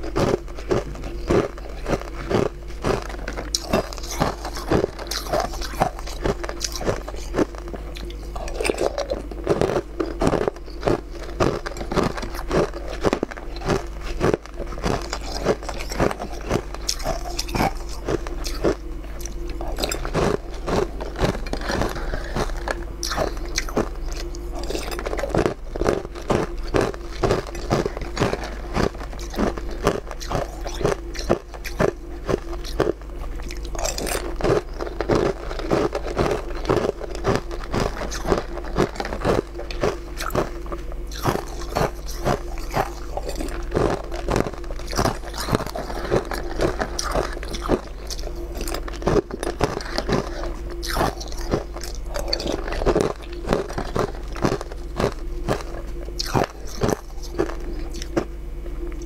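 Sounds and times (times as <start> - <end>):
person crunching and chewing food: 0.0 - 59.0
steady low hum: 0.0 - 59.0.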